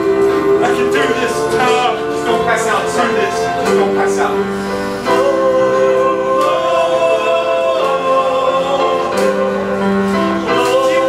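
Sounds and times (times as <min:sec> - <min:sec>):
person singing long notes: 0:00.0 - 0:11.0
sustained chords: 0:00.0 - 0:11.0.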